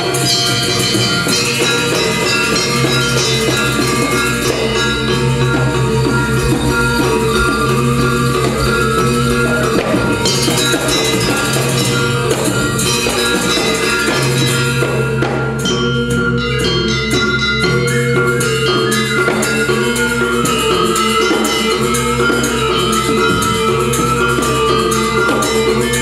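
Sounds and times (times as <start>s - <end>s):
gamelan playing: 0.0s - 26.0s.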